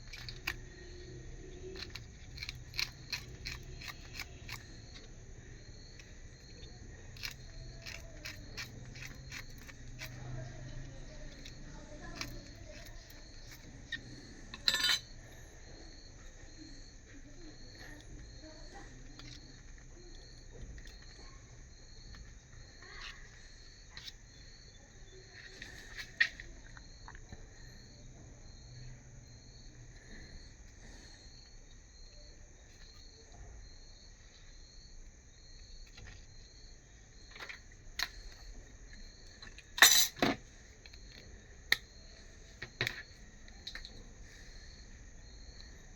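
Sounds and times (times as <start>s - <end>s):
insect chirping: 0.0s - 45.9s.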